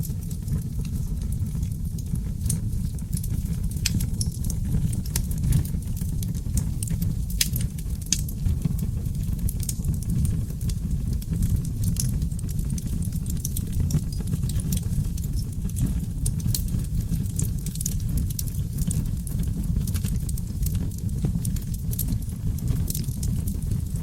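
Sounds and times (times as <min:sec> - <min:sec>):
flames rumbling in fireplace: 0:00.0 - 0:24.0
logs crackling and popping: 0:00.0 - 0:24.0.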